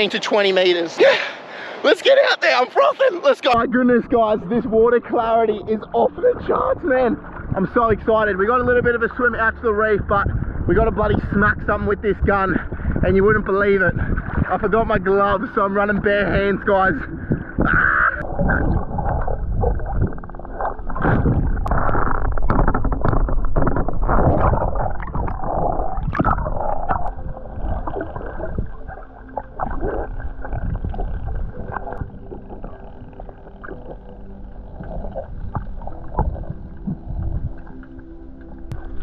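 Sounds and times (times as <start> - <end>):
underwater sloshing and gurgling: 4.2 - 39.0.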